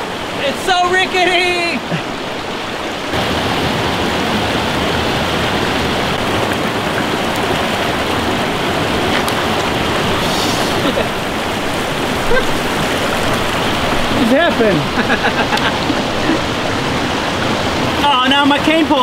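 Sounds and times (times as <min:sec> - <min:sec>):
stream rushing over boulders: 0:00.0 - 0:19.0.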